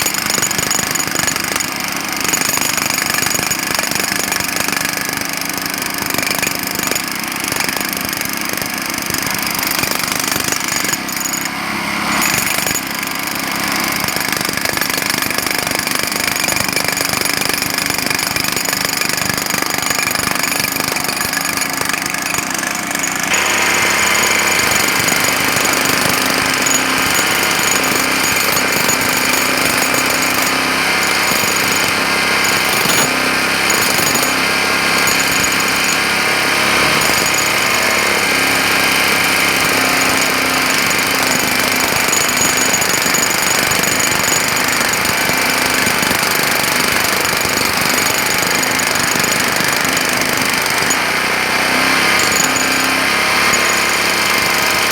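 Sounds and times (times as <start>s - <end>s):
jackhammer hammering: 0.0s - 54.9s.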